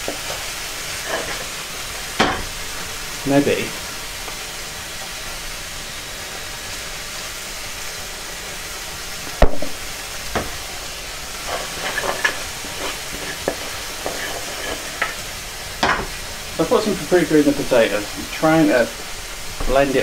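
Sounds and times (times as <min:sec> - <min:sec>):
food sizzling in frying pan: 0:00.0 - 0:20.0
utensil stirring pan: 0:00.0 - 0:20.0.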